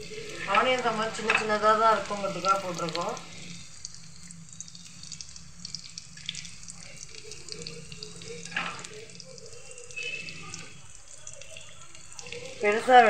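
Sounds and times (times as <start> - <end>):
deep-frying bubbling sizzle: 0.0 - 13.0.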